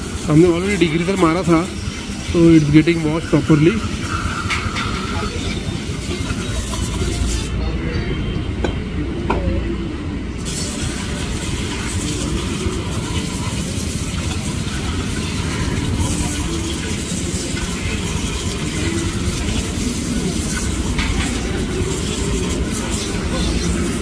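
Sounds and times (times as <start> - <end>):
pressure washer jet hissing: 0.0 - 7.6, 10.4 - 24.0.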